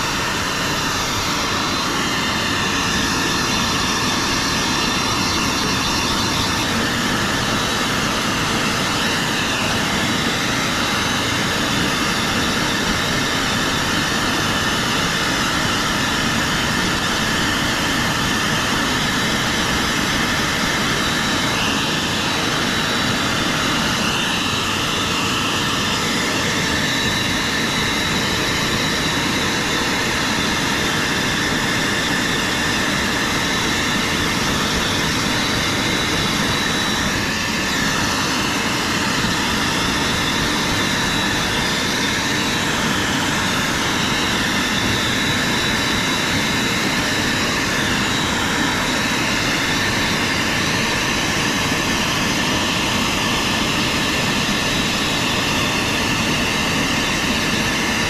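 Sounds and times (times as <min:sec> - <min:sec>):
blower dryer rushing air: 0:00.0 - 0:58.0.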